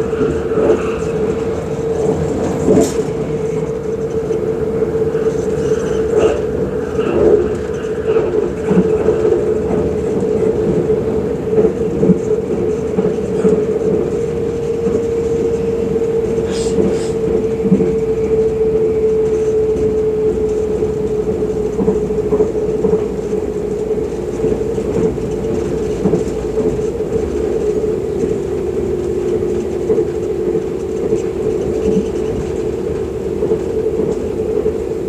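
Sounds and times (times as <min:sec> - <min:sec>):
electric train hum: 0:00.0 - 0:35.0
wheels rumbling on track: 0:00.0 - 0:35.0.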